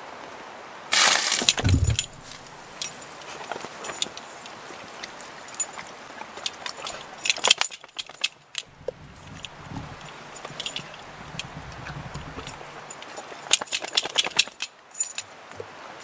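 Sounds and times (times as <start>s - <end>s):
wind through trees: 0.0s - 16.0s
sharp clicks and jingling: 1.4s - 4.6s, 5.5s - 15.3s.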